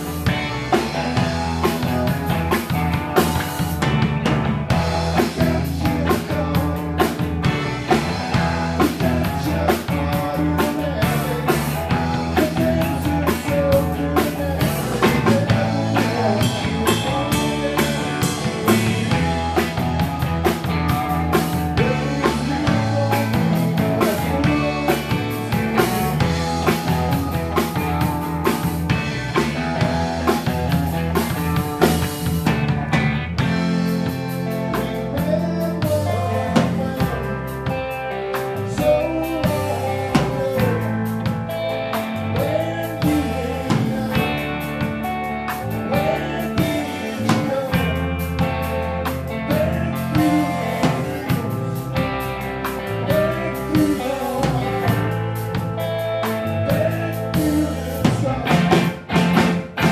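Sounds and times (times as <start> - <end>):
drum kit beat: 0.0 - 59.9
rock band playing live: 0.0 - 59.9.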